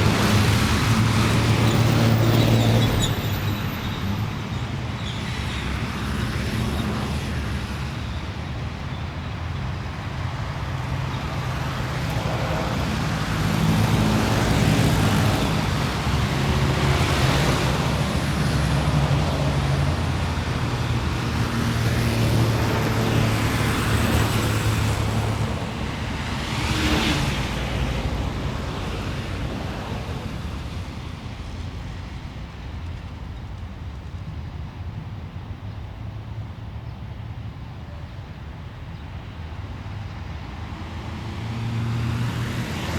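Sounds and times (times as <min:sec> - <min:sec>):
traffic engines rumbling: 0:00.0 - 0:42.9
vehicles passing with tyre hiss: 0:00.0 - 0:42.9.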